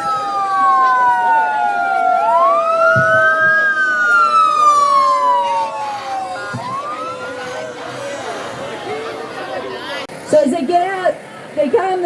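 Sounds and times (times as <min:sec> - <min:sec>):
emergency sirens wailing: 0:00.0 - 0:10.1.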